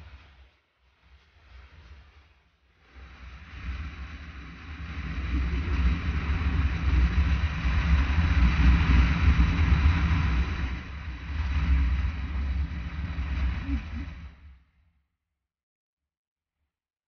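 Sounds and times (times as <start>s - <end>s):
wind noise: 0.0s - 14.5s.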